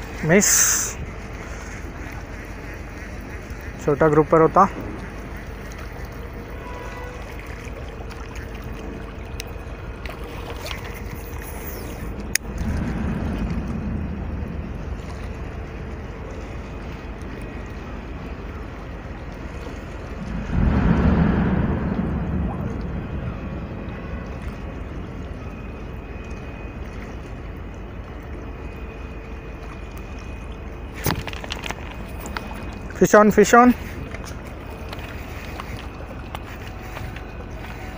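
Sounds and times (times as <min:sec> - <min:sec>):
water on rocky shore: 0:00.0 - 0:37.9
wind at seashore: 0:00.0 - 0:37.9.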